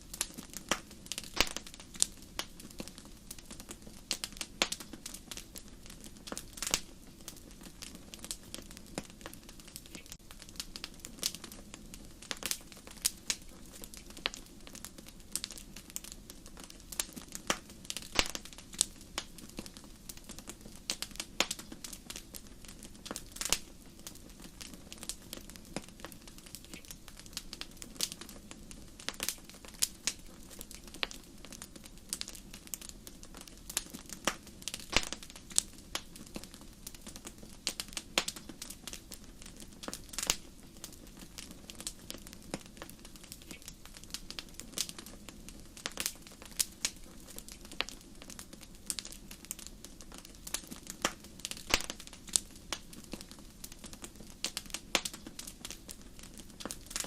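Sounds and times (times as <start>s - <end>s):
fire crackling and popping: 0.0s - 57.0s
low hiss of flames: 0.0s - 57.0s.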